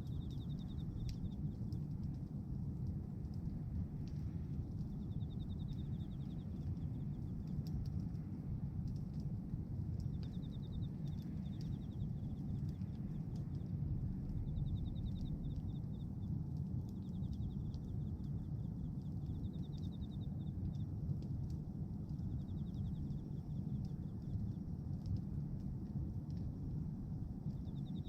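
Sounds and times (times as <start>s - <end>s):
bonfire crackling: 0.0s - 28.0s
fire low rumble: 0.0s - 28.0s.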